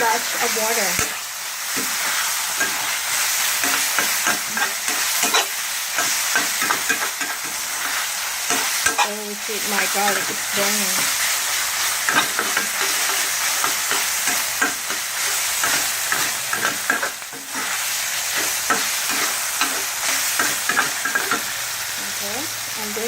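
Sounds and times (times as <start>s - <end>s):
meat sizzling in a pan: 0.0s - 23.0s
spatula scraping and tapping pan: 0.9s - 11.1s, 12.0s - 22.2s.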